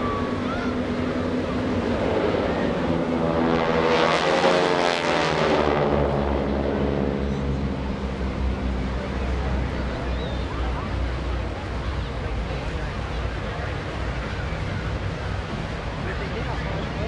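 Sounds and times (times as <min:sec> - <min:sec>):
propeller planes passing overhead: 0:00.0 - 0:17.0.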